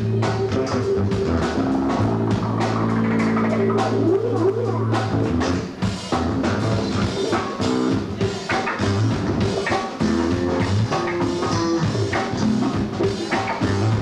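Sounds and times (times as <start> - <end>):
drum kit steady beat: 0.0 - 14.0
electric guitar: 0.0 - 14.0
live rock band playing: 0.0 - 14.0.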